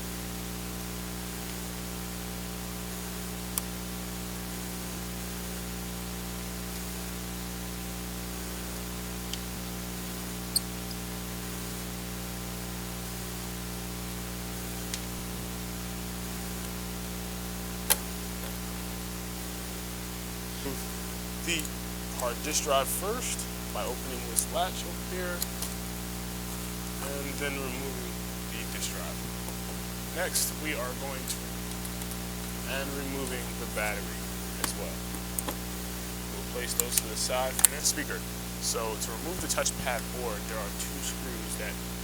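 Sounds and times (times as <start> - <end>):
electrical hum and hiss: 0.0 - 42.0.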